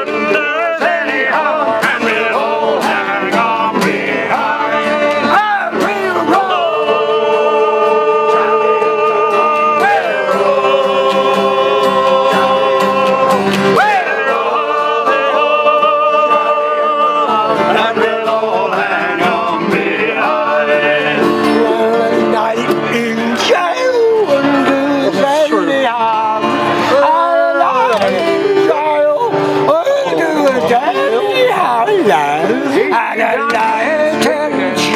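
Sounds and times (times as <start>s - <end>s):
men singing in chorus: 0.0s - 29.6s, 31.8s - 34.9s
acoustic guitars strumming: 0.0s - 34.9s.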